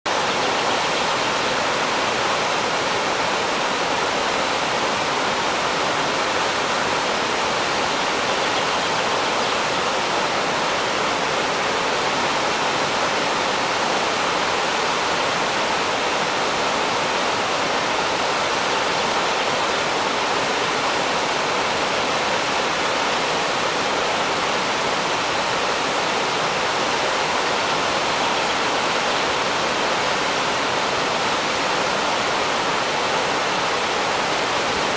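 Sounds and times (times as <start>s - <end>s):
waterfall water crashing: 0.1s - 34.9s.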